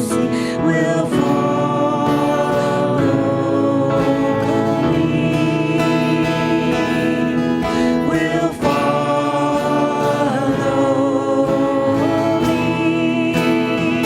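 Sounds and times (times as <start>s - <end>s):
acoustic guitar: 0.0s - 14.0s
people singing worship song: 0.0s - 14.0s.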